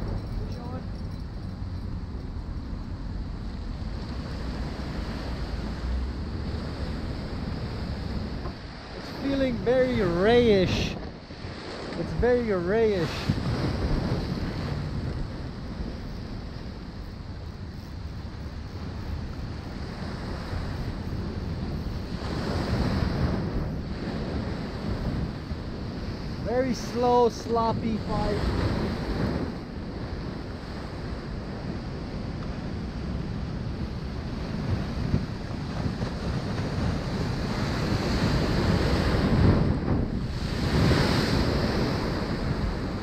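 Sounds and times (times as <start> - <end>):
ocean surf washing: 0.0 - 43.0
wind buffeting microphone: 0.0 - 43.0.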